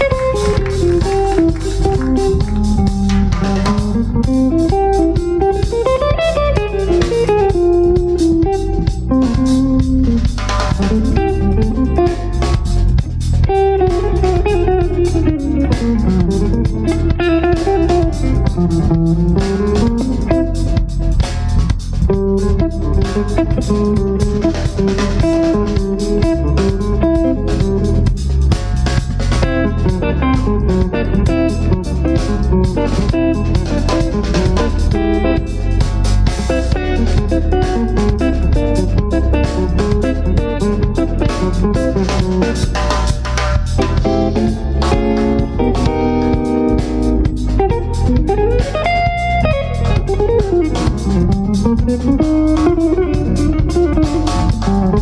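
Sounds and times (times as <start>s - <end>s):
drum kit: 0.0s - 55.0s
electric bass: 0.0s - 55.0s
electric guitar lead: 0.0s - 55.0s.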